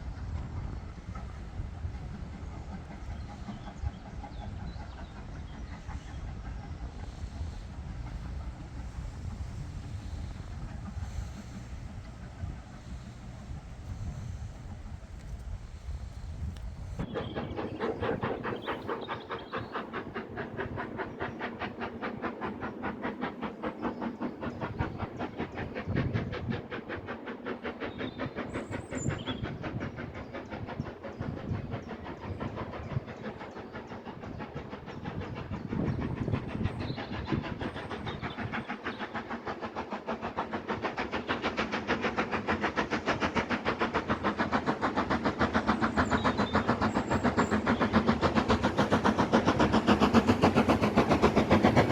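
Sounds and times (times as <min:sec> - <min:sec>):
train running rhythmically: 0:00.0 - 0:51.9.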